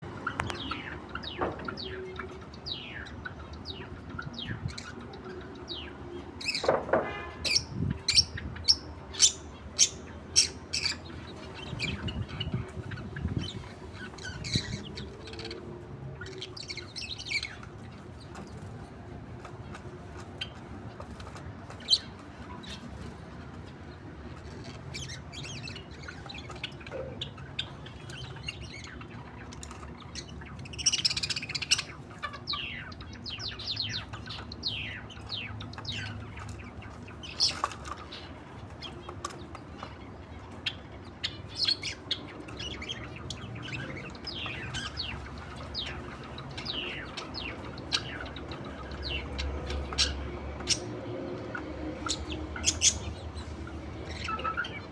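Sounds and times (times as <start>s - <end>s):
budgerigars chirping: 0.2s - 6.8s, 7.4s - 15.6s, 16.2s - 23.4s, 24.2s - 54.9s.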